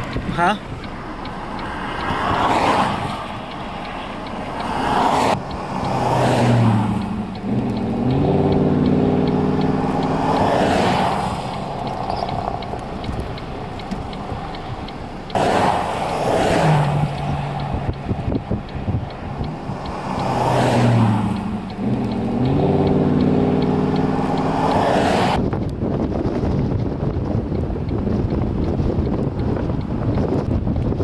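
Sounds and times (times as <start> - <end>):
cars passing on road: 0.0 - 31.0
engine hum: 0.0 - 31.0.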